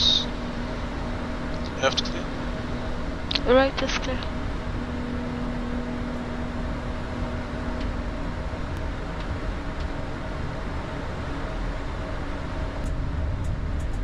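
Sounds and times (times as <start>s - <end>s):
faint hum: 0.0s - 14.0s
idling jet engines rumble: 0.0s - 14.0s
ventilation hiss: 0.0s - 14.0s.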